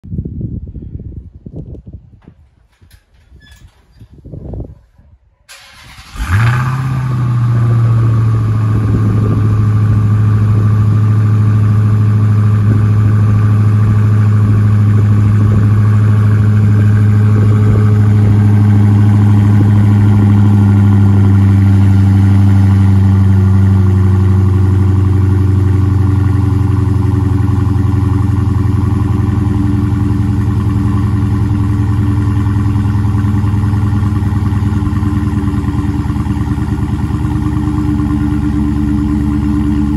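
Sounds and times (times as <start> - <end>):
car engine starting and idling: 5.5 - 39.9.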